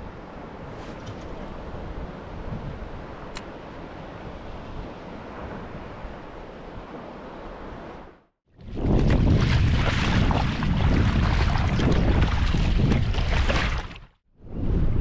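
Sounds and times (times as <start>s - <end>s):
sea water around kayak: 0.0s - 14.2s
wind on microphone: 0.0s - 15.0s.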